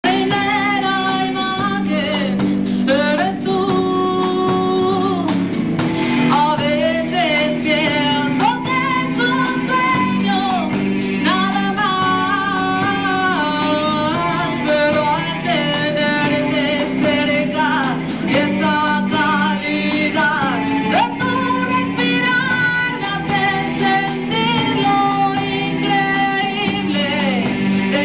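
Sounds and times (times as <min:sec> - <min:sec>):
drum kit: 0:00.0 - 0:28.0
electric guitars: 0:00.0 - 0:28.0
woman singing into a microphone: 0:00.0 - 0:28.0.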